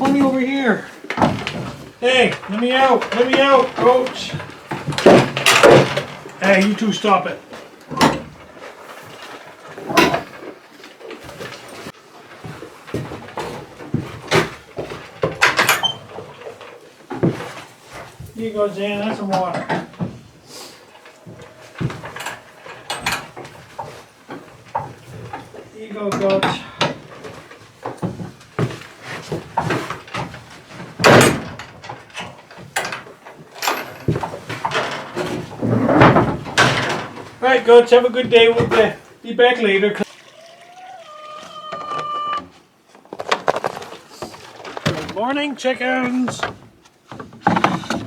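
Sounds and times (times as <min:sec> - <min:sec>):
barn door rattle: 0:00.0 - 0:10.7, 0:12.4 - 0:48.0
sharp knocks and clatters: 0:00.0 - 0:39.2, 0:46.1 - 0:48.0
background noise: 0:00.0 - 0:48.0.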